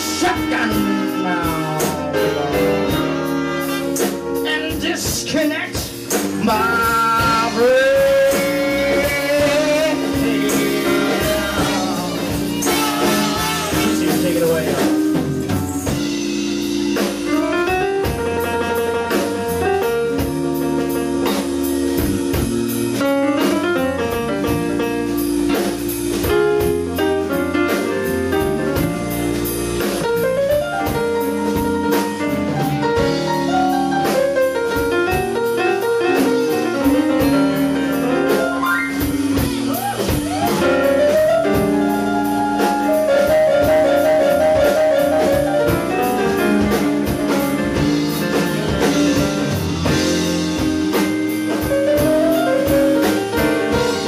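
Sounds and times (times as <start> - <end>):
blues band playing: 0.0 - 54.0.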